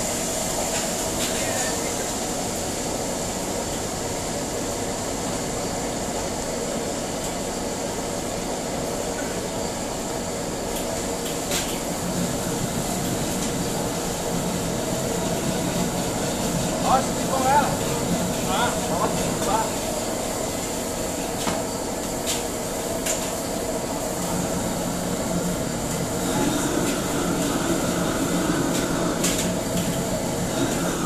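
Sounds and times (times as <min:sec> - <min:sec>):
gas burners roaring: 0:00.0 - 0:31.0.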